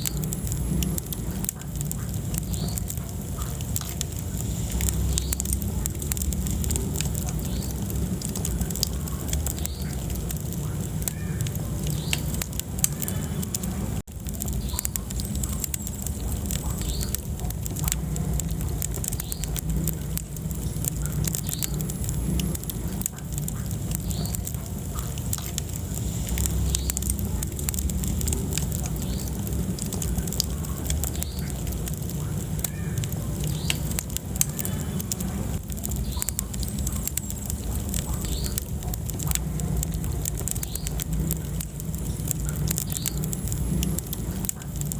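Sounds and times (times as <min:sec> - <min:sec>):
fire crackling and popping: 0:00.0 - 0:44.9
low rumble of flame: 0:00.0 - 0:44.9.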